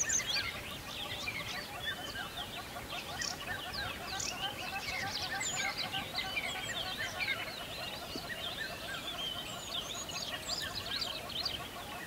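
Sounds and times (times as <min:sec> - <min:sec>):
birds chirping chorus: 0:00.0 - 0:12.0.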